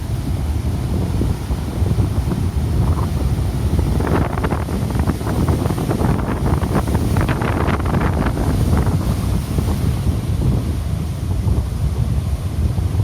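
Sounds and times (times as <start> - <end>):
wave breaking and surf hissing: 0.0 - 13.0
wind buffeting microphone: 0.0 - 13.0.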